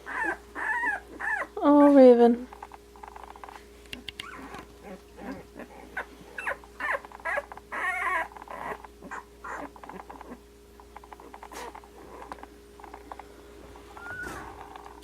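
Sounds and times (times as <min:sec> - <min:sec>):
puppies squeaking and whimpering: 0:00.0 - 0:01.6, 0:02.5 - 0:13.2, 0:13.8 - 0:15.0.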